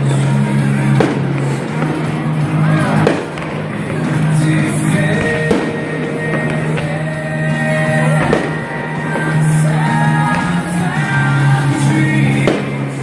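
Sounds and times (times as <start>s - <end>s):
rock music with singing: 0.0s - 13.0s.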